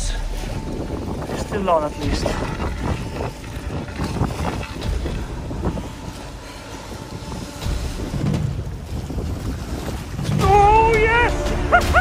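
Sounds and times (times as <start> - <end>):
wind buffeting microphone: 0.0 - 11.5
sea water slapping concrete pier: 0.0 - 12.0.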